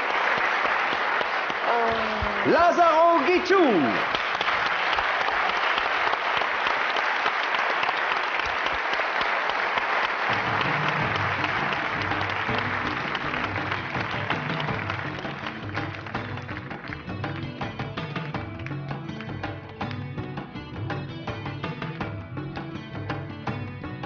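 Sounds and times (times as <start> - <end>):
studio audience applauding: 0.0 - 23.8.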